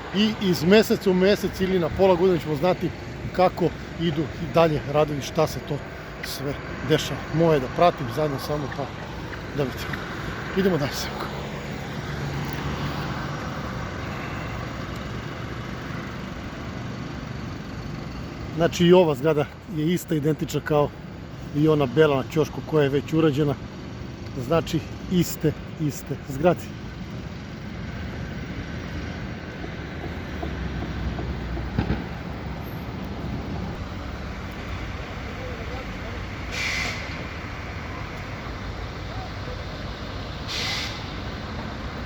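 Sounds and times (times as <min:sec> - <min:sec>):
road traffic noise: 0:00.0 - 0:42.0
vehicle engine humming: 0:00.0 - 0:42.0.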